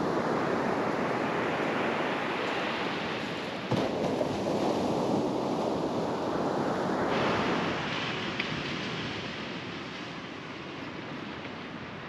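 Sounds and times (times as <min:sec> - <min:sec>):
ocean surf washing: 0:00.0 - 0:12.0.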